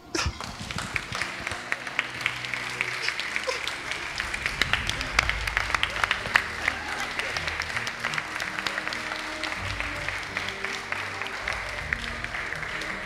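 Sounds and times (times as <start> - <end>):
guests applauding: 0.0 - 13.0
soft music: 0.0 - 13.0.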